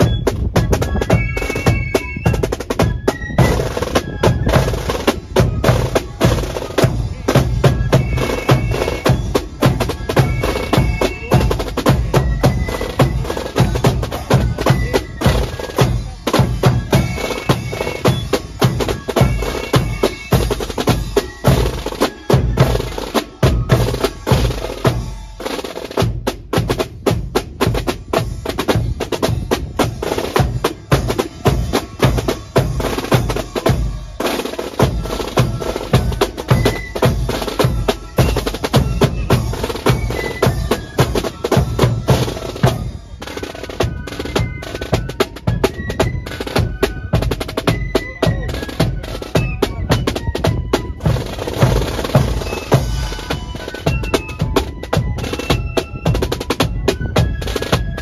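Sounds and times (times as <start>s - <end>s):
bass drum marching beat: 0.0s - 58.0s
marching snare drums: 0.0s - 58.0s.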